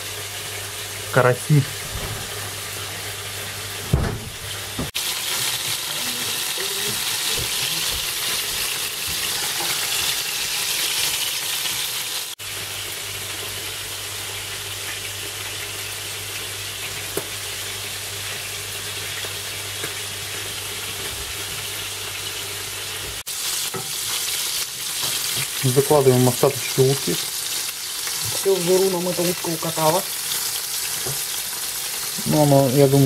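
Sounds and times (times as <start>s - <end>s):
food sizzling in hot fat: 0.0s - 33.0s.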